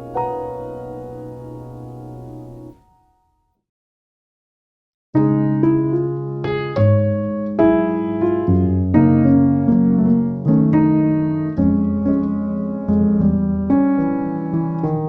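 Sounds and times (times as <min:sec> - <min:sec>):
slow piano chords: 0:00.0 - 0:03.3, 0:05.2 - 0:15.0.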